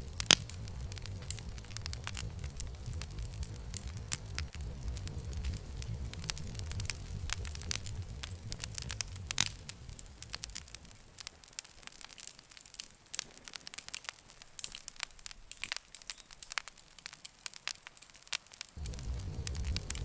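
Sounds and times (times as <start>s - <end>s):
campfire wood crackling and popping: 0.0s - 20.0s
low rumble of flame: 0.0s - 20.0s.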